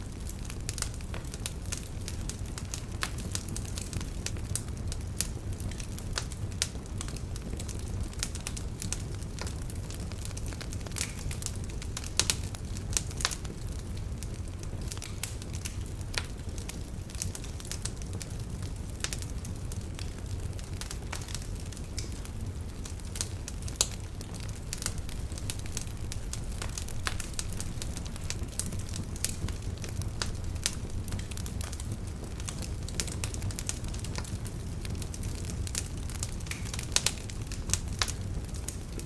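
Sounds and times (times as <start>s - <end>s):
burning logs crackling and popping: 0.0s - 39.0s
low rumble of fire: 0.0s - 39.0s.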